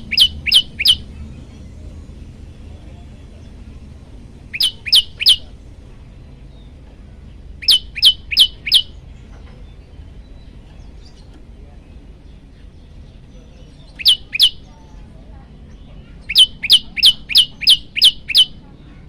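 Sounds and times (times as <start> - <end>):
bird singing sharp downward notes: 0.0 - 18.8.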